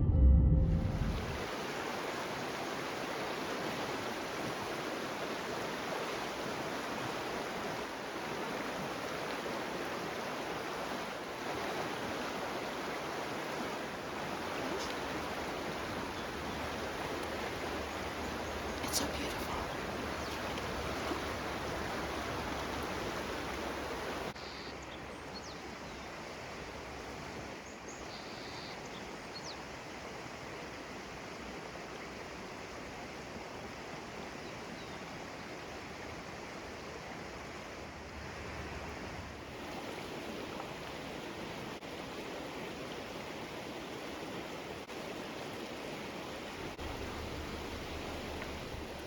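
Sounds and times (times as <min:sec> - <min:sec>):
rushing stream water: 0:01.2 - 0:28.0, 0:29.0 - 0:49.0.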